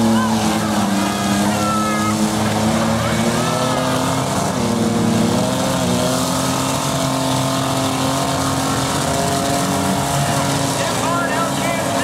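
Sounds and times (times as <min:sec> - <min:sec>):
minivan engines running: 0:00.0 - 0:12.0.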